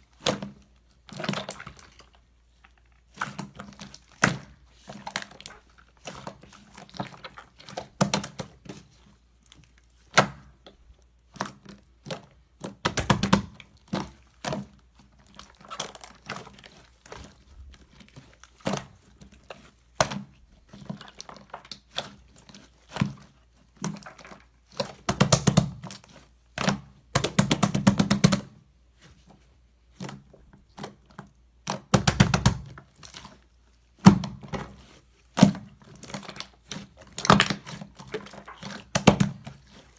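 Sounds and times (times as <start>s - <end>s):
slime squelching and popping: 0.1s - 28.6s, 29.8s - 39.9s.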